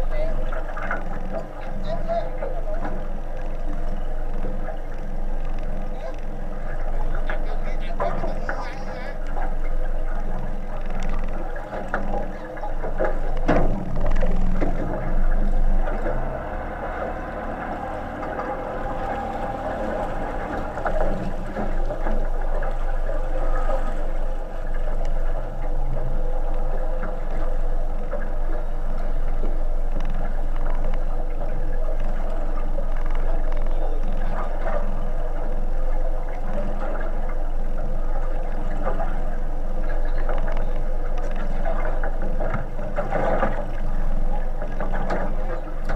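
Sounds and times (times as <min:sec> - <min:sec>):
low continuous hum: 0:00.0 - 0:45.9
water washing: 0:00.0 - 0:45.9.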